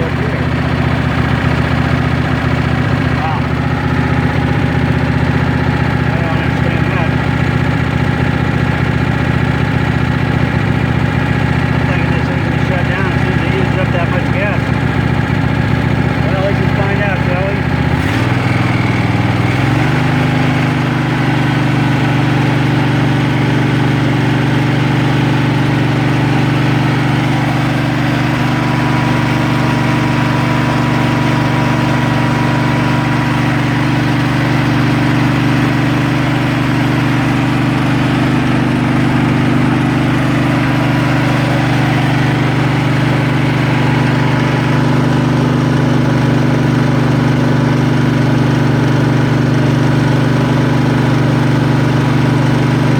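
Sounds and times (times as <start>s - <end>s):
riding mower engine running: 0.0s - 52.9s.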